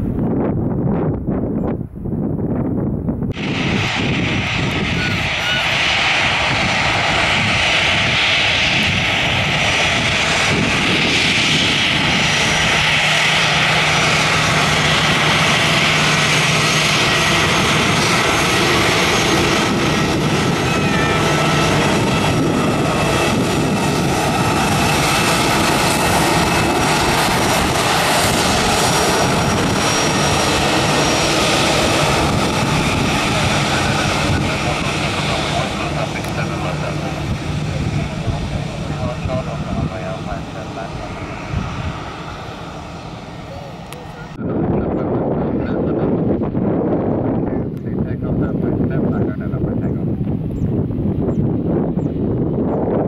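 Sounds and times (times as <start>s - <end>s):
jet engines with high whine: 0.0s - 53.0s.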